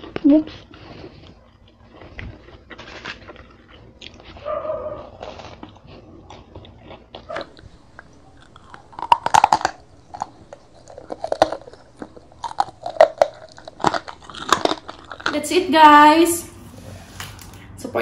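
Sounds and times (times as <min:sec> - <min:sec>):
crunchy bites and chewing: 0:00.0 - 0:15.3.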